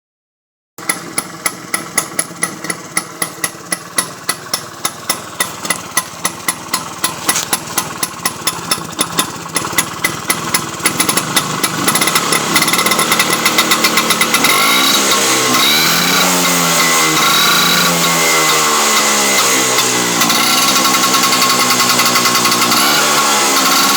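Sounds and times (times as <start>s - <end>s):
scooter engine revving: 0.8s - 23.9s.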